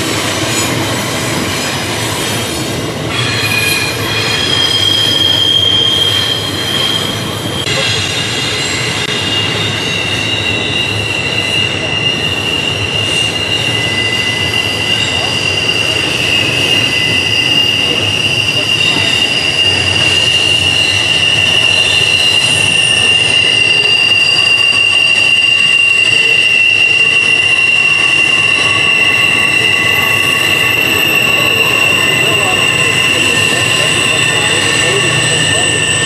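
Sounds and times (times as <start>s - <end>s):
train wheel flange squeal: 0.0s - 36.0s
train wheels rumbling on rails: 0.0s - 36.0s.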